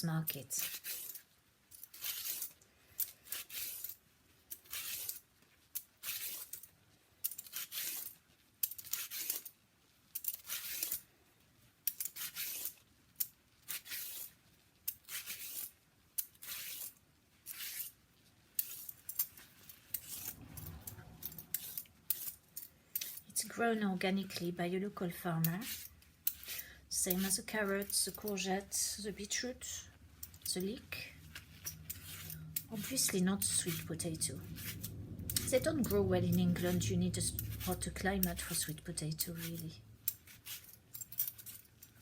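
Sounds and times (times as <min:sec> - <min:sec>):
vegetable peeler scraping: 0:00.0 - 0:03.9, 0:04.5 - 0:06.6, 0:07.4 - 0:09.5, 0:10.2 - 0:11.0, 0:12.0 - 0:12.8, 0:13.6 - 0:23.4, 0:25.4 - 0:29.5, 0:30.2 - 0:42.0.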